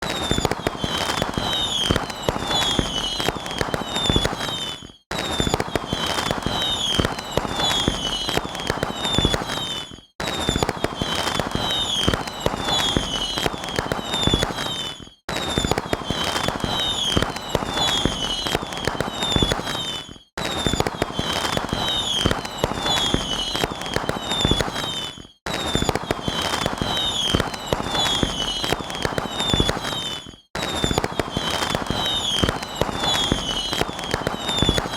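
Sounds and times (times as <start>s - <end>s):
fireworks crackling bangs: 0.0s - 34.9s
high falling whistles: 0.0s - 34.9s.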